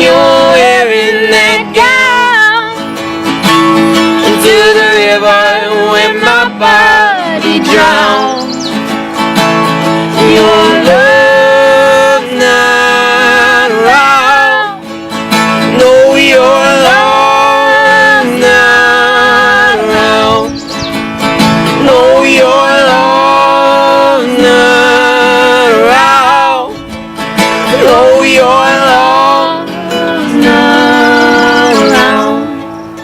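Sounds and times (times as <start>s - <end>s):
acoustic folk band playing: 0.0s - 33.0s
acoustic guitar: 0.0s - 33.0s.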